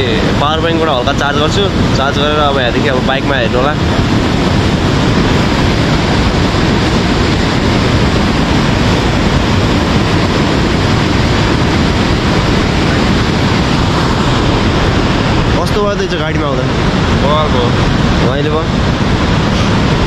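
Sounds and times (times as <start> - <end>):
river rushing over boulders: 0.0 - 20.0.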